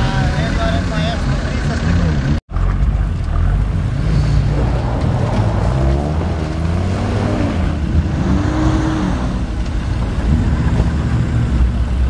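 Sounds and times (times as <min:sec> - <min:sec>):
jeep engine revving: 0:00.0 - 0:12.0.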